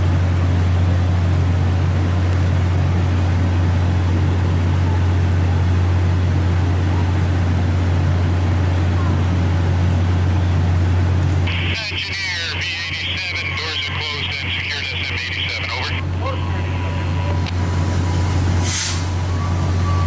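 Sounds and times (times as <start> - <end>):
diesel locomotive engine droning: 0.0 - 20.0.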